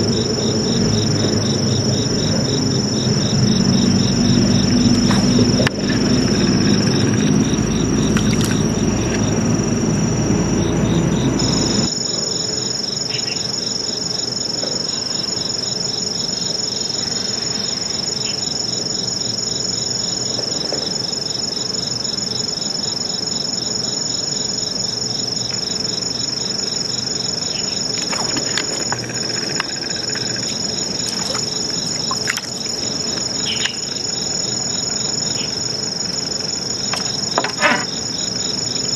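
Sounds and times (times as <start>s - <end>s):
crickets and insects chirping: 0.0s - 38.9s.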